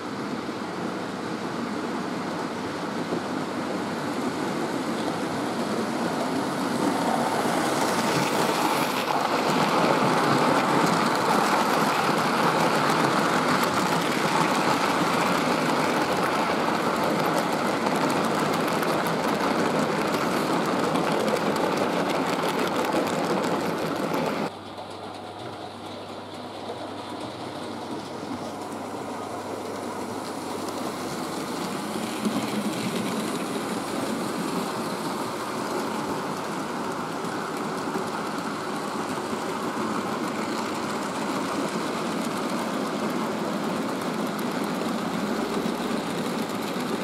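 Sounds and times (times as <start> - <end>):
model train wheels clattering: 6.2 - 47.0.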